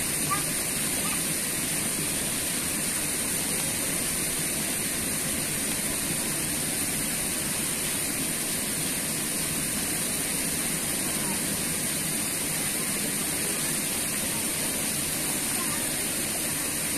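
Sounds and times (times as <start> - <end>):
water rushing in a channel: 0.0 - 16.9.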